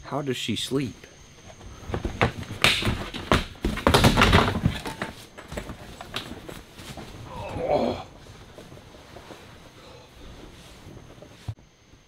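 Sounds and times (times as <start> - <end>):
sleeping bag rustling and bumping: 1.4 - 11.6.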